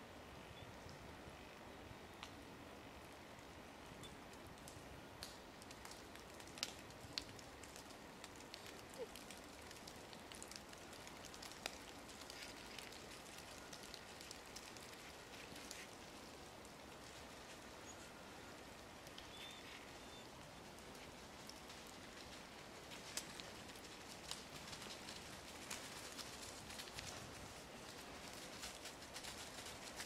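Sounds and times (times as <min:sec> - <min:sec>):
faint small clicks and ticks: 0:02.2 - 0:30.0.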